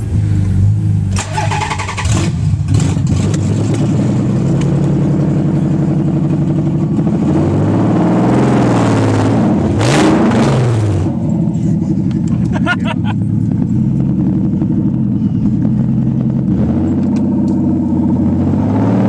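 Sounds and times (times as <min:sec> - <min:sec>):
loud car engine idling: 0:00.0 - 0:18.6
engine throttle blips: 0:00.0 - 0:19.0.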